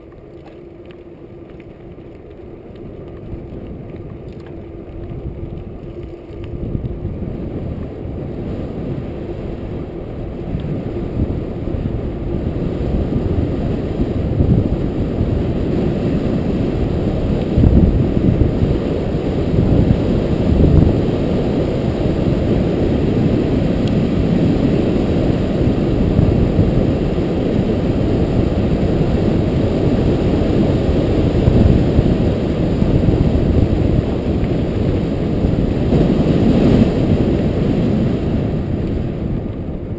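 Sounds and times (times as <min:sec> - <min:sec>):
bike tyre rumble: 0:00.0 - 0:39.9
wind buffeting microphone: 0:02.2 - 0:39.9.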